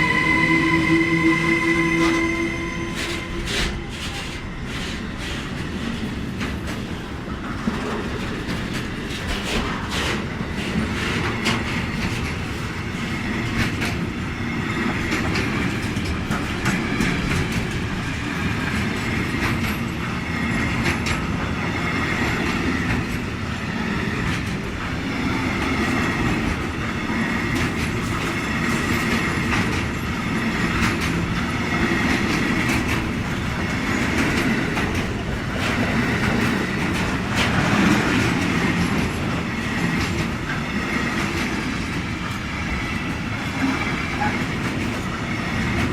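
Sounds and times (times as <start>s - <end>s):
freight train rolling past: 0.0s - 45.9s.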